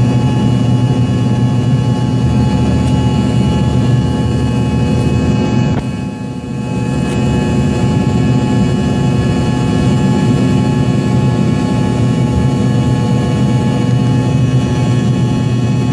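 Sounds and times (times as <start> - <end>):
jet engine rush: 0.0 - 15.9.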